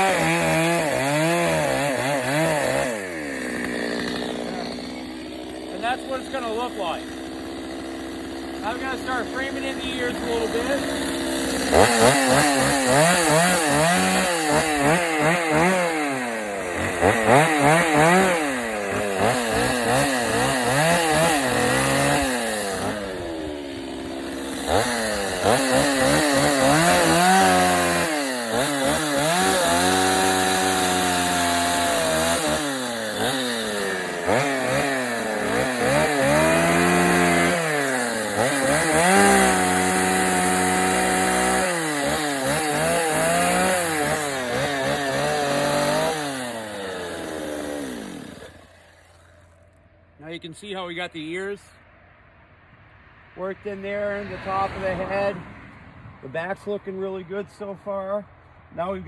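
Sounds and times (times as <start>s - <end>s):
chainsaw cutting log: 0.0s - 49.9s.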